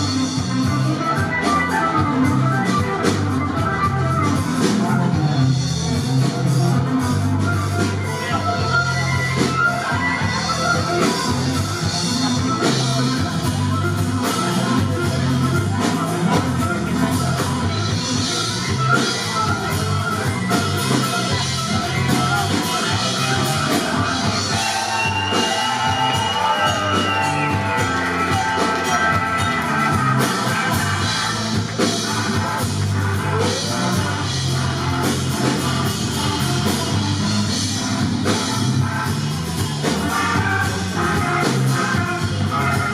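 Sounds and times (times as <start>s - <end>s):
repeating bass line: 0.0s - 42.9s
rock band playing live: 0.0s - 42.9s.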